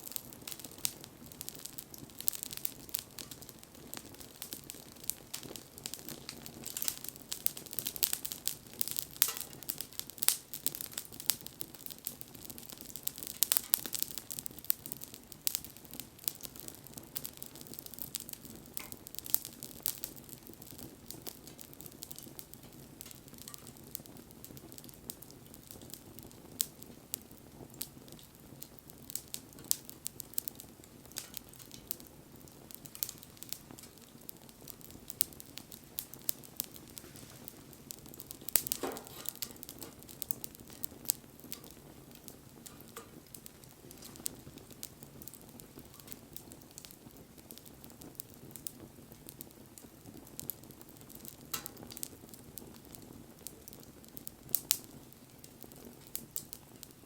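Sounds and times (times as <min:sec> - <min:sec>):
rush of flame: 0:00.0 - 0:57.0
wood fire crackling: 0:00.0 - 0:57.0.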